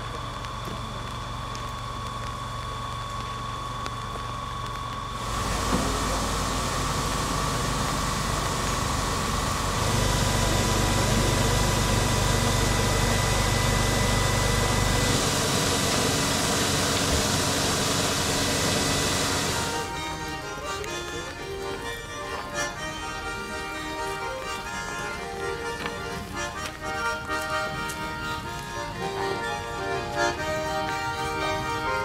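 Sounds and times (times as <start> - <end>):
electric railcar equipment humming: 0.0 - 32.0.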